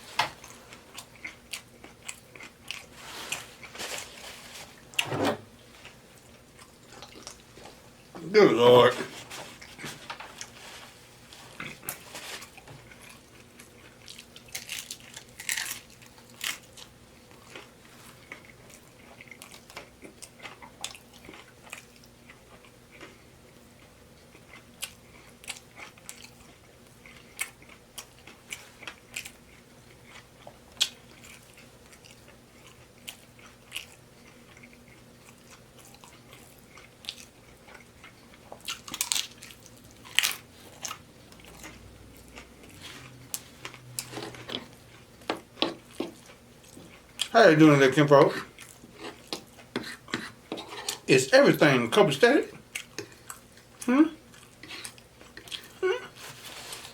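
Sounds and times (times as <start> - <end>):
chewing and crunching food: 0.0 - 5.0, 5.6 - 8.2, 9.1 - 51.1, 52.5 - 56.9.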